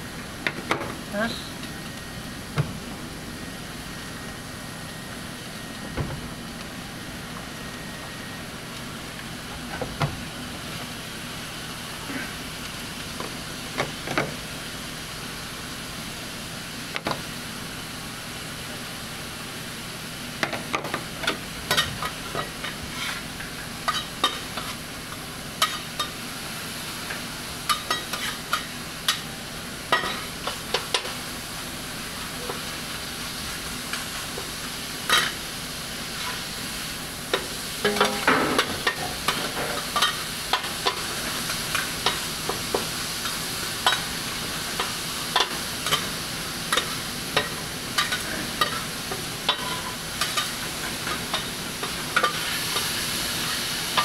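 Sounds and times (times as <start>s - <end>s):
food sizzling on griddle: 0.0s - 54.0s.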